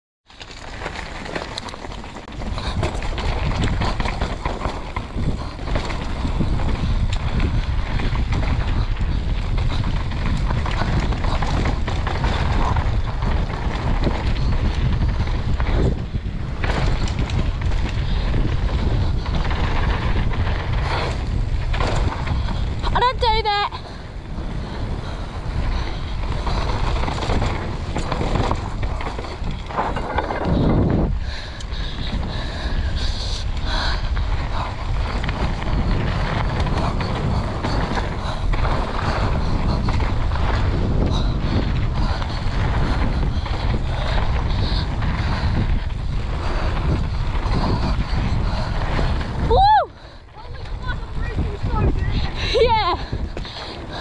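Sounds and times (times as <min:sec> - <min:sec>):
bike chattering over rough ground: 0:00.3 - 0:54.0
wind buffeting microphone: 0:00.4 - 0:54.0.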